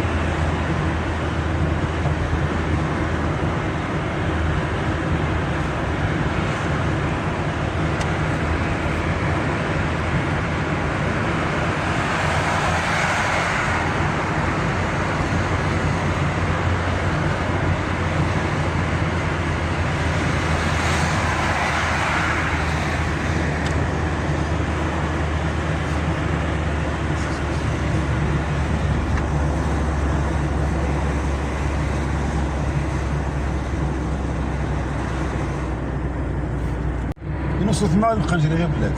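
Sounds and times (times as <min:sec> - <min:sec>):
air rushing past car: 0:00.0 - 0:37.6
car engine hum: 0:00.0 - 0:38.9
tyre and road noise: 0:00.0 - 0:38.9.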